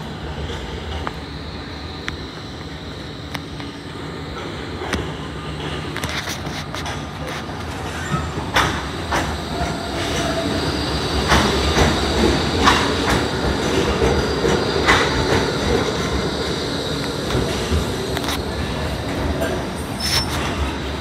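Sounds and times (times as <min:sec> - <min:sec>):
tram rolling rumble: 0:00.0 - 0:21.0.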